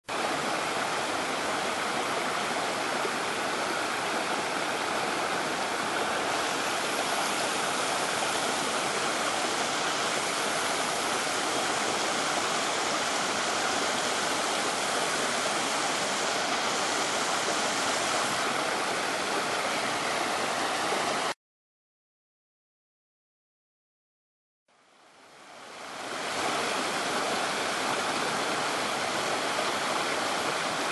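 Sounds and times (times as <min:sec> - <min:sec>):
creek cascading over boulders: 0:00.1 - 0:21.4, 0:25.3 - 0:30.9.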